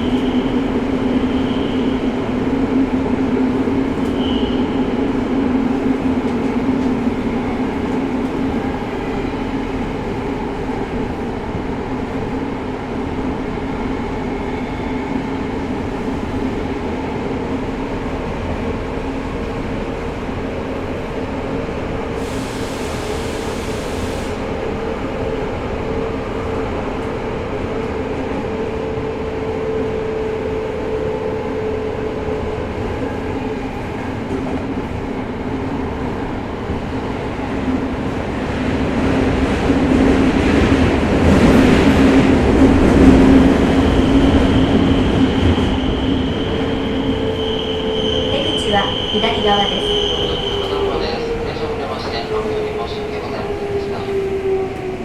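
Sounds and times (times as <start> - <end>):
subway car running rumble: 0.0 - 55.0.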